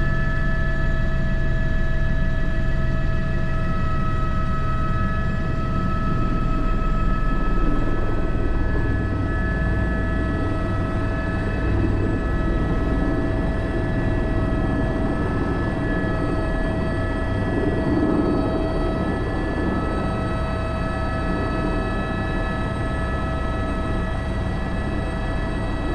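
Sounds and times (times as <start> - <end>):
helicopter turbine whine: 0.0 - 25.9
rotor and engine rumble: 2.3 - 25.9.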